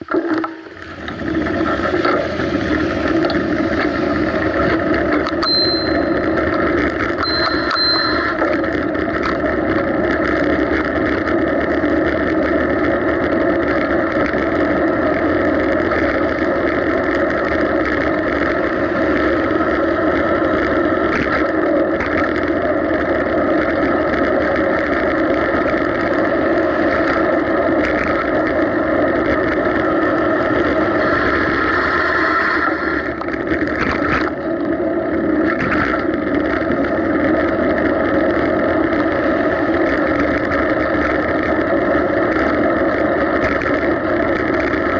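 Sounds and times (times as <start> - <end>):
bicycle rolling and wind noise: 0.0 - 44.9.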